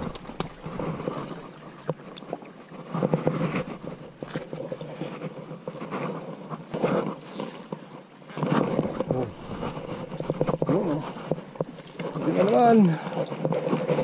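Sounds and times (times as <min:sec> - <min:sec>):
rustling stems and leaves: 0:00.0 - 0:14.0.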